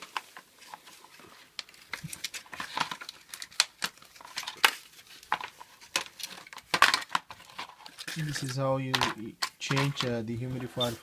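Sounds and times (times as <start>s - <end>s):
crinkling rustles: 0.0s - 11.0s.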